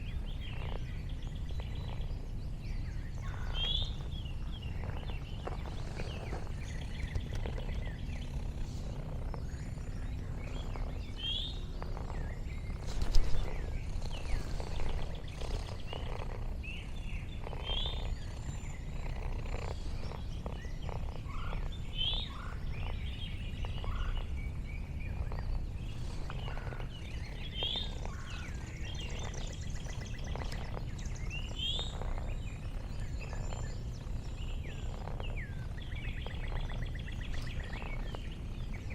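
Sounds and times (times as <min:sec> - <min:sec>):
bird chirping: 0:00.0 - 0:38.9
cat purring: 0:00.0 - 0:38.9.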